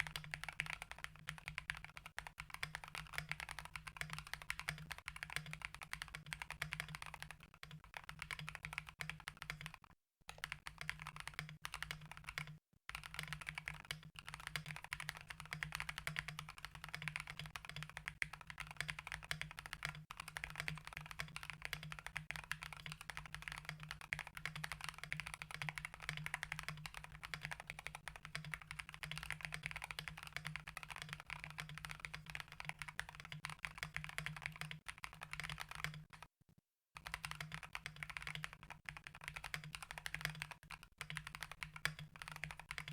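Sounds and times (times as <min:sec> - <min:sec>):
mechanical keyboard typing: 0:00.0 - 0:36.3, 0:37.0 - 0:42.9.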